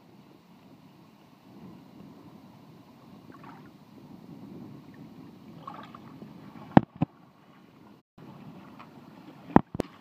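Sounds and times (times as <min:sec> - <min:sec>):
water lapping against kayak: 0:00.1 - 0:10.0.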